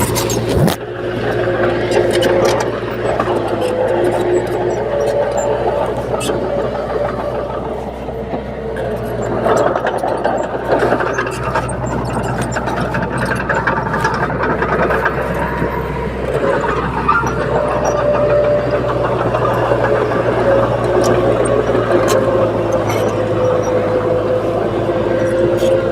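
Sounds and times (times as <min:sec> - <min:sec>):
bulldozer diesel engine running: 0:00.0 - 0:25.9.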